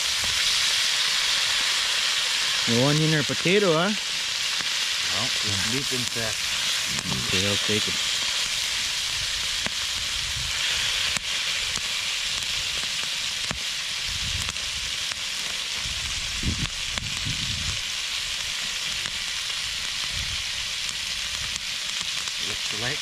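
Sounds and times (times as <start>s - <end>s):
meat sizzling in a skillet: 0.0s - 23.0s.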